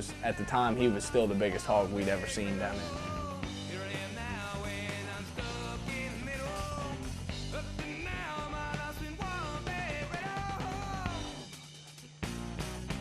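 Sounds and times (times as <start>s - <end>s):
background rock music: 0.0s - 13.0s.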